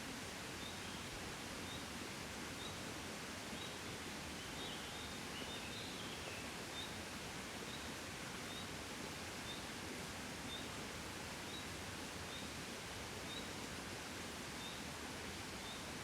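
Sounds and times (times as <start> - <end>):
gentle wind rustle: 0.0 - 16.0.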